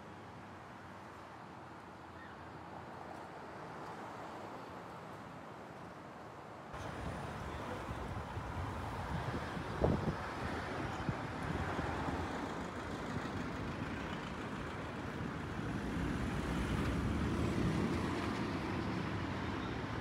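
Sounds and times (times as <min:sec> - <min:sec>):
cars and trucks passing: 0:00.0 - 0:20.0.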